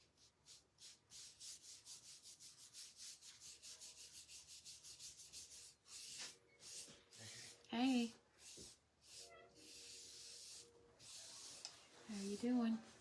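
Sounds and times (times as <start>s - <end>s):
paintbrush strokes on frame: 0.1s - 13.0s.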